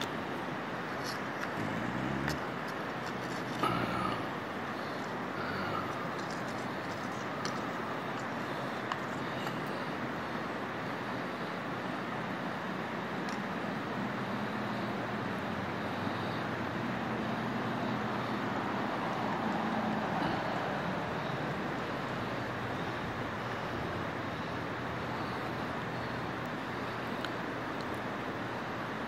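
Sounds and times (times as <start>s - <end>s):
river flowing over stones: 0.0s - 29.0s.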